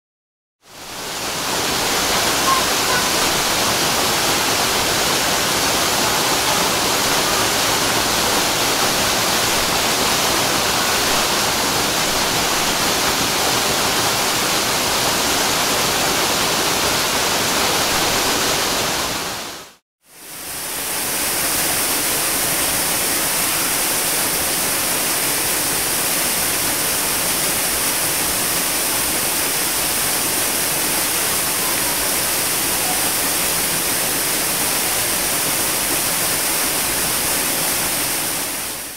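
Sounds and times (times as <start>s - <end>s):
waterfall rushing: 0.7s - 38.9s.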